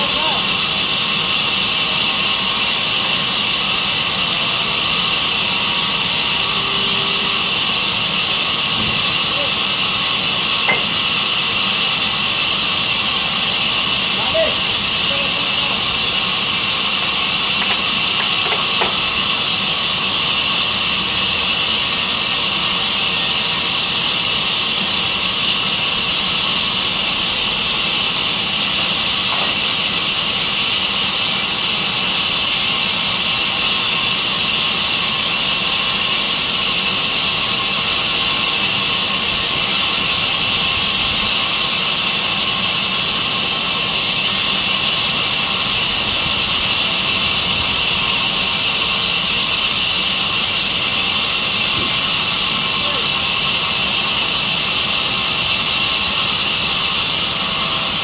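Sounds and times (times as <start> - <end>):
sawmill saw hissing: 0.0 - 58.0.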